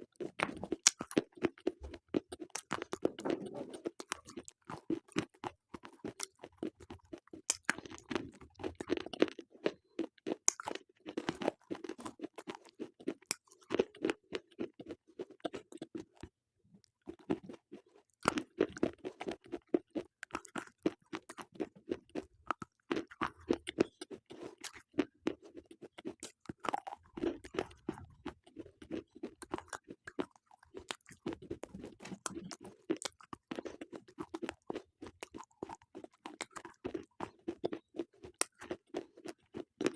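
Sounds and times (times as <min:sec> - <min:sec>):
slate pencils being chewed: 0:00.0 - 0:39.9.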